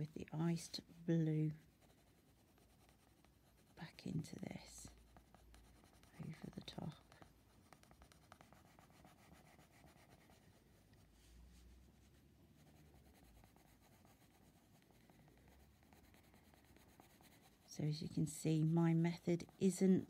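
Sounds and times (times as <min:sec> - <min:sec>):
pencil scratching on paper: 0:01.5 - 0:10.8, 0:12.6 - 0:20.0.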